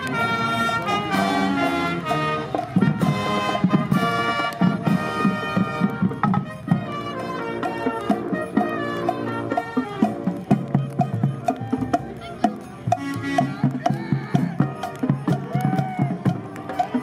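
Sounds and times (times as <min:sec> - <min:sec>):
marching band playing: 0:00.0 - 0:17.0
marching drums: 0:00.0 - 0:17.0.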